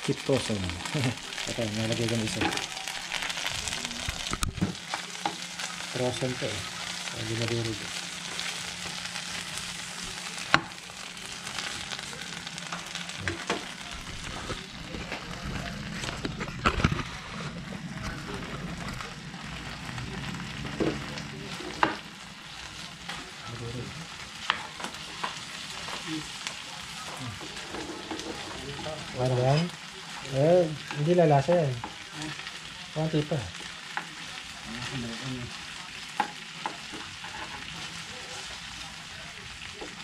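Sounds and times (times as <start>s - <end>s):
pork sizzling in oil: 0.0s - 40.0s.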